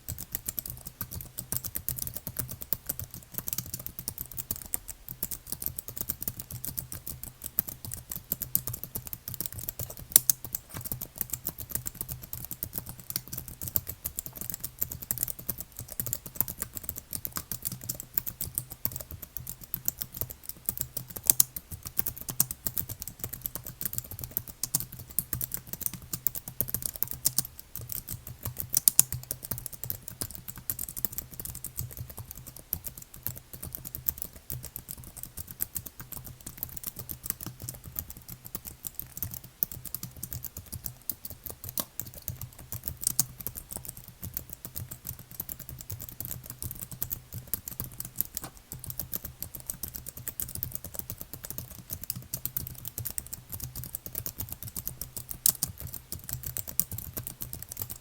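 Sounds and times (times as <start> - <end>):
keyboard typing: 0.1 - 58.0.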